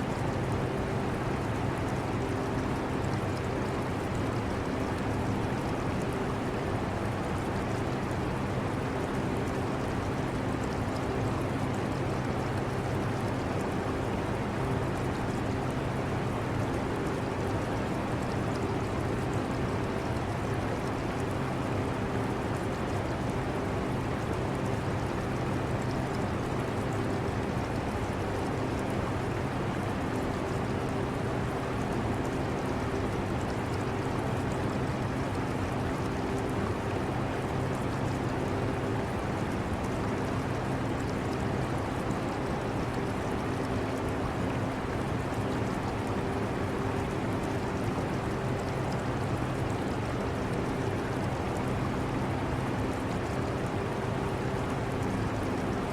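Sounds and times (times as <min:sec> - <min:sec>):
aquarium water running: 0:00.0 - 0:55.9.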